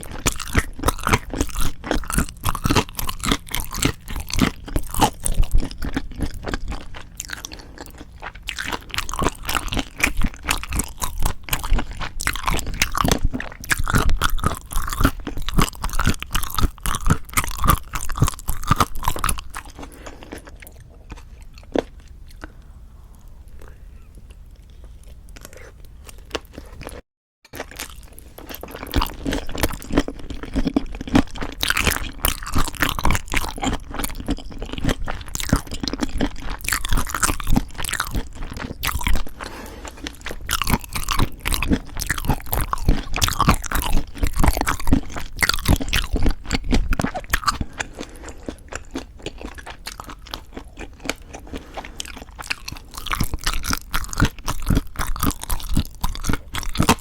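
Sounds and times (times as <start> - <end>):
wet mouth sounds: 0.0 - 27.0, 27.6 - 57.0
chewing crunchy food: 0.0 - 57.0.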